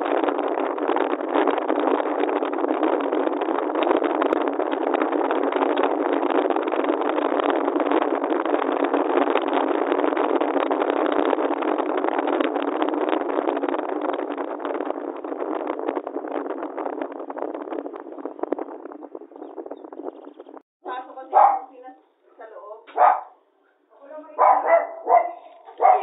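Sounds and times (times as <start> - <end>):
car road and wind noise: 0.0 - 21.7, 22.9 - 23.4, 24.2 - 26.0.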